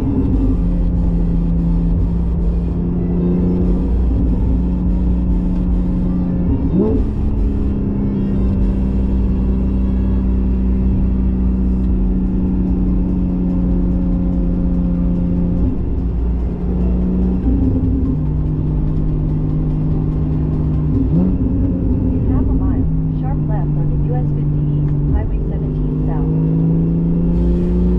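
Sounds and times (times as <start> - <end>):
car engine cruising: 0.0 - 27.9.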